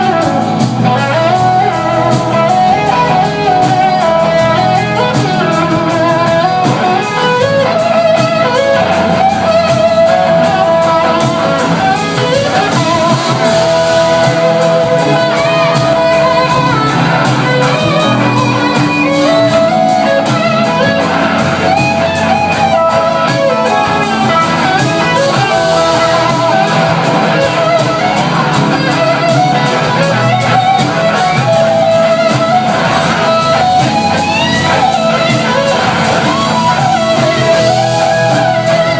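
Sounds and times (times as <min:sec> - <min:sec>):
band playing: 0:00.0 - 0:38.9
electric slide guitar solo: 0:00.0 - 0:38.9.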